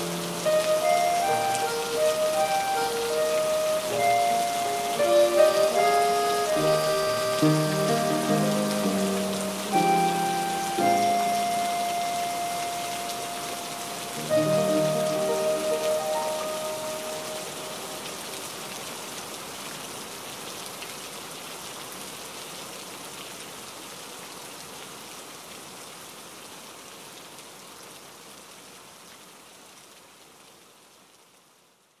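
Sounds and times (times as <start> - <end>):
rain pattering on water: 0.0 - 32.0.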